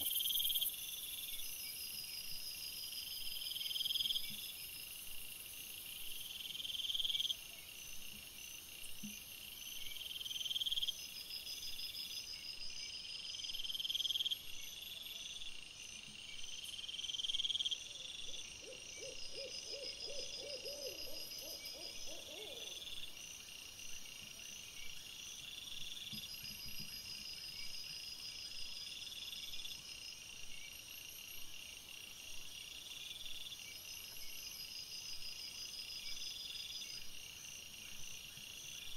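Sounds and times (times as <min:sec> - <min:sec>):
crickets chirping: 0:00.0 - 0:38.9
low rapid insect pulses: 0:00.0 - 0:38.9.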